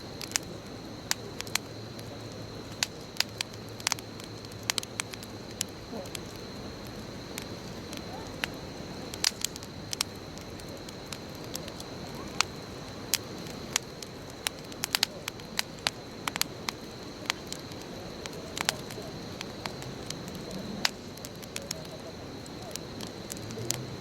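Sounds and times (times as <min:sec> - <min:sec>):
wood bonfire crackling: 0:00.0 - 0:24.0.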